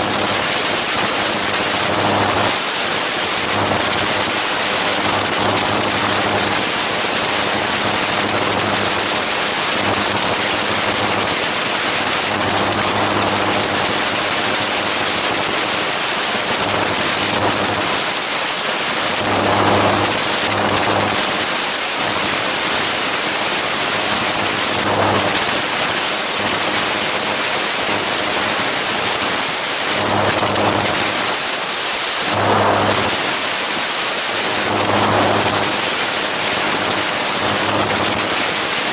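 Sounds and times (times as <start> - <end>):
engine and propeller drone: 0.0 - 33.8, 34.4 - 38.8.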